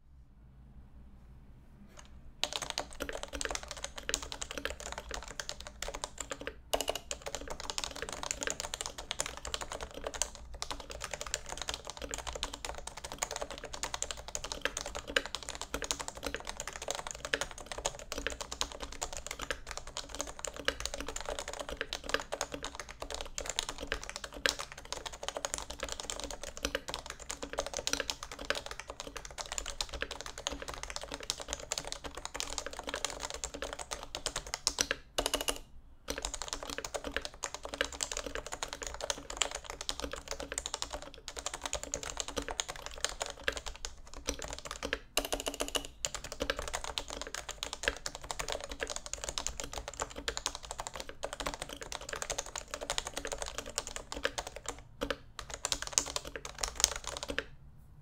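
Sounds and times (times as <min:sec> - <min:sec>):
fast keyboard typing: 0:02.0 - 0:57.5.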